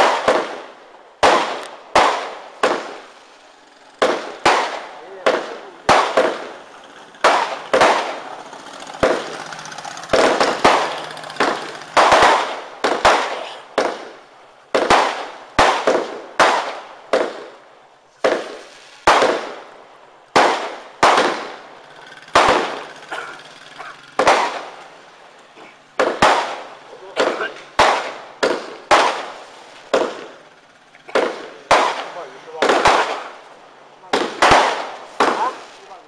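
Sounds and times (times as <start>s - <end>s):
fireworks bangs: 0.0s - 36.0s.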